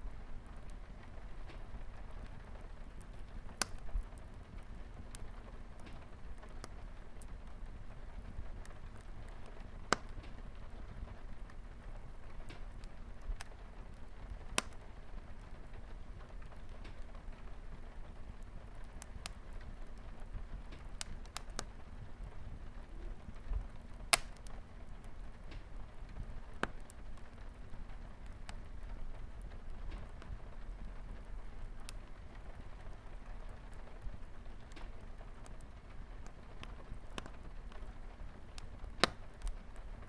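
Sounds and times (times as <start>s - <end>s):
light rain on a window: 0.0s - 40.0s
wood fire crackling and popping: 0.0s - 40.0s.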